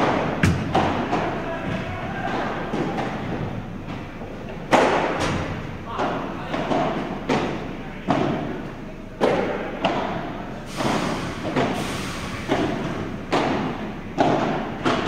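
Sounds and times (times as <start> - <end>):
ball hitting paddle rackets: 0.0 - 8.6, 9.2 - 11.8, 12.5 - 15.0.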